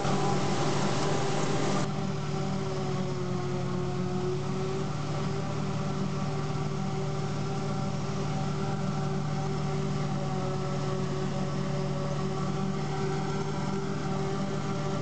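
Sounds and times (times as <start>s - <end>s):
forage harvester engine drone: 0.0s - 15.0s
tractor running: 0.0s - 15.0s.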